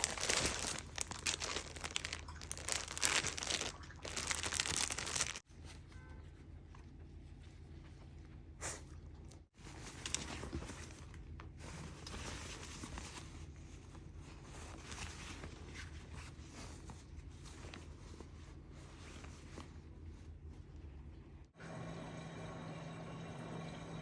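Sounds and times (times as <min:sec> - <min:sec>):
rustling and handling noises: 0:00.0 - 0:08.6, 0:09.2 - 0:21.5
low steady hum: 0:00.0 - 0:24.0.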